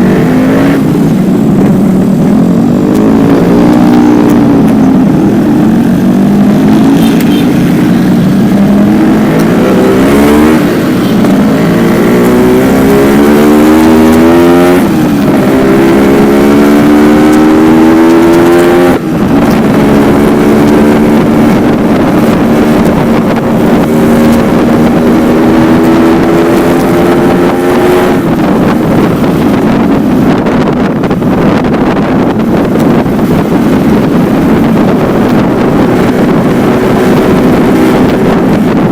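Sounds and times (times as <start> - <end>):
two-stroke motorcycle accelerating: 0.0 - 38.9.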